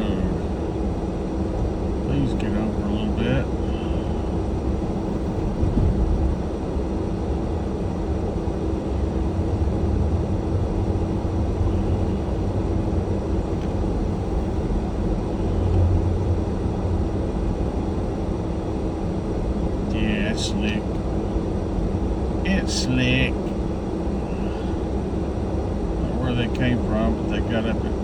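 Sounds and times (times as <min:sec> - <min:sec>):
car cabin rumble: 0:00.0 - 0:28.0
constant hum: 0:00.0 - 0:28.0.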